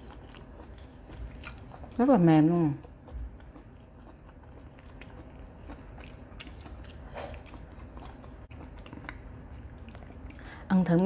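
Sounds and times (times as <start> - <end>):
person chewing: 0.0 - 2.0, 2.8 - 10.5.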